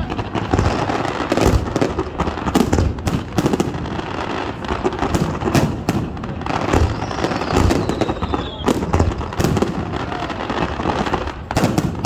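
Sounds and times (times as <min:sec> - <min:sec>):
fireworks booms and bangs: 0:00.0 - 0:12.0.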